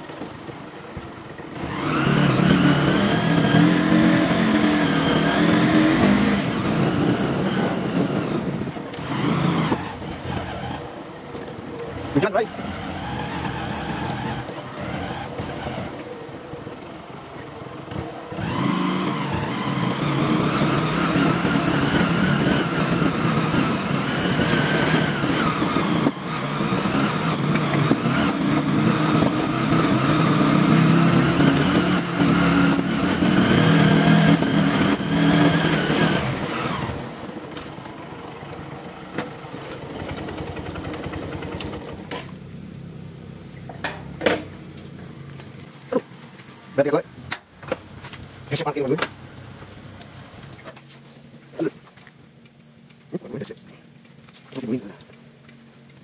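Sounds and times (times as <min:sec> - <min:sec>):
motorcycle engine revving: 0:00.8 - 0:50.8.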